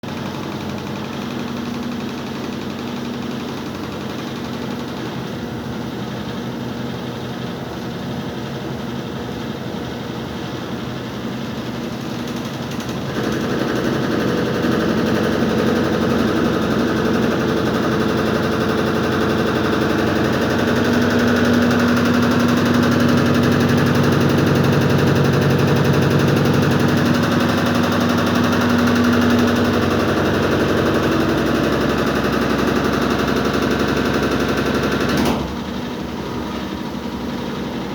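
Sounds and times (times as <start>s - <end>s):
washing machine spinning: 0.0s - 37.9s.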